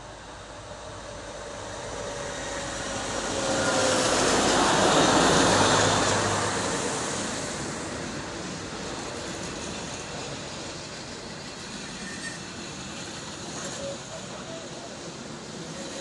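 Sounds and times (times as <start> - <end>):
electric passenger train passing: 0.0 - 16.0.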